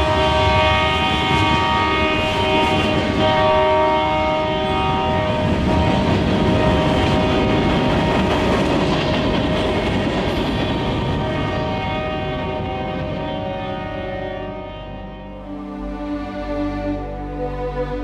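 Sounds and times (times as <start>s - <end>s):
locomotive air horn: 0.0s - 8.5s, 10.9s - 18.0s
moving train rumble: 0.0s - 18.0s.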